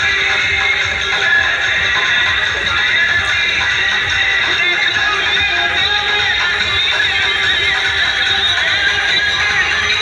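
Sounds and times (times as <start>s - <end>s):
loud music from horn loudspeakers: 0.0s - 10.0s.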